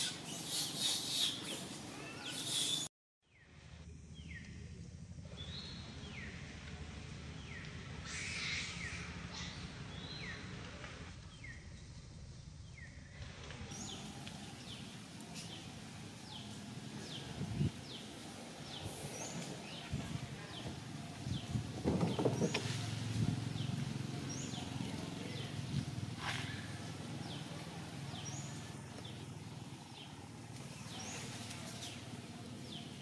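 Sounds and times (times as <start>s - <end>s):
low outdoor rumble: 3.3s - 33.0s.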